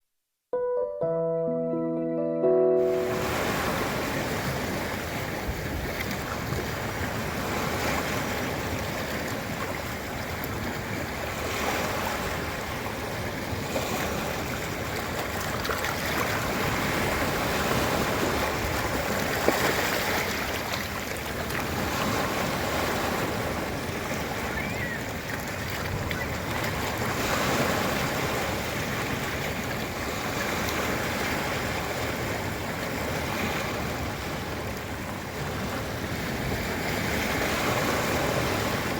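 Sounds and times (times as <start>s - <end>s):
ocean surf breaking on beach: 2.8s - 38.9s.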